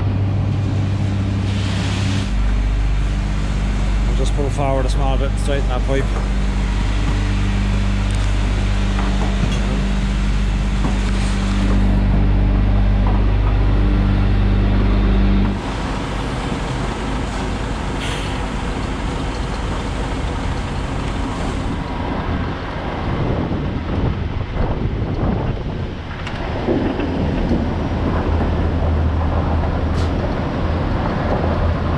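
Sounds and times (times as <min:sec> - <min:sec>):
diesel engine humming: 0:00.0 - 0:31.9
wind rumbling on microphone: 0:00.0 - 0:31.9.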